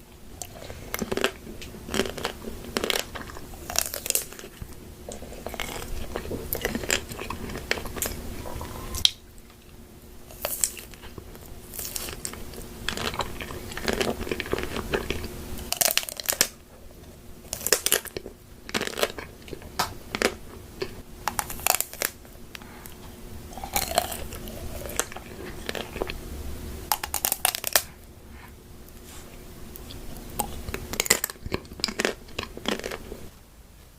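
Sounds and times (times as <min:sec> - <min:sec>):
person crunching food: 0:00.4 - 0:26.2, 0:26.9 - 0:33.3.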